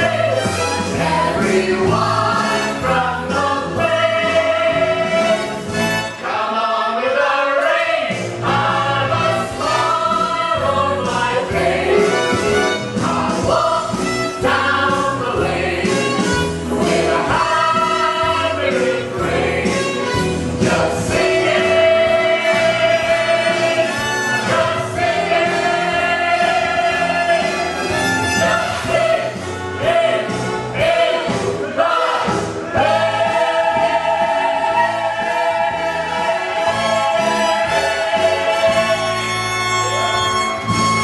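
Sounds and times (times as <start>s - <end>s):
mixed choir singing: 0.0s - 40.2s.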